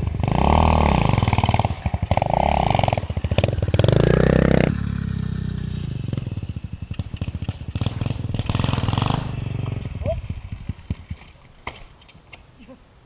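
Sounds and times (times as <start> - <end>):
small motorbike engine revving: 0.0 - 11.2.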